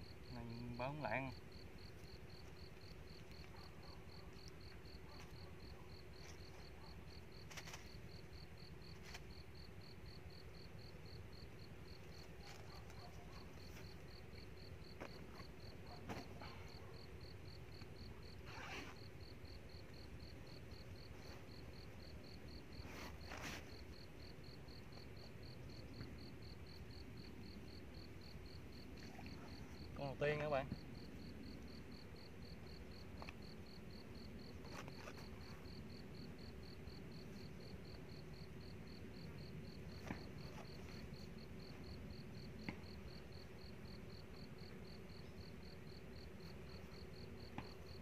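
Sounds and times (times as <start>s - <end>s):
insect chirping: 0.0s - 48.0s.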